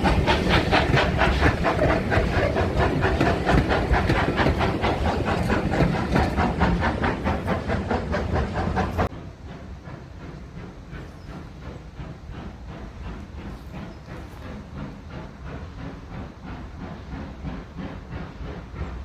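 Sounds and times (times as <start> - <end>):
steam hissing: 0.0 - 19.0
steam locomotive exhaust beating: 0.0 - 19.0.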